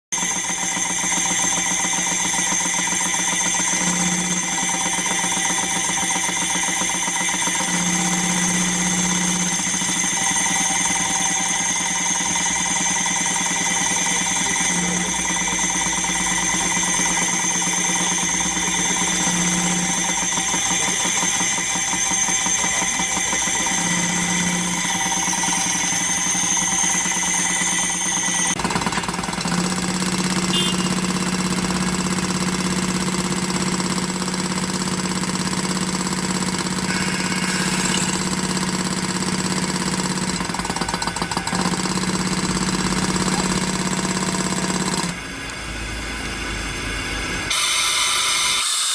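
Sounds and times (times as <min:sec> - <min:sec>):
fast mechanical rattle: 0:00.2 - 0:45.4.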